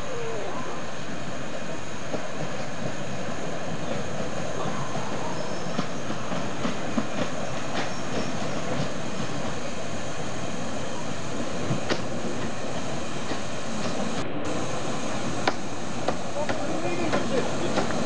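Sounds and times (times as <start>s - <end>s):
steam train approaching: 0.0s - 18.0s
train clicks and knocks on track: 1.0s - 18.0s.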